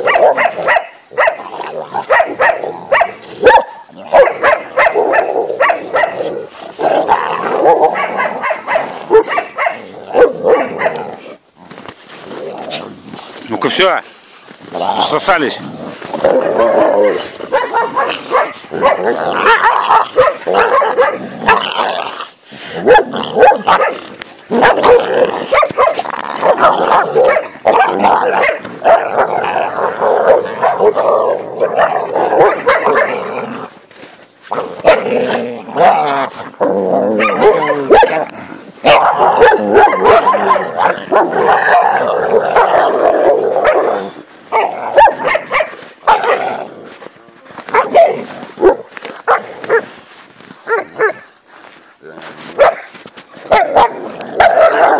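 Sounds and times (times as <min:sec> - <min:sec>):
dogs barking and yelping: 0:00.0 - 0:11.4, 0:16.0 - 0:21.9, 0:22.8 - 0:33.8, 0:34.5 - 0:51.8, 0:52.5 - 0:54.9
dogs snarling and growling: 0:00.0 - 0:13.8, 0:14.7 - 0:49.9, 0:53.5 - 0:54.9.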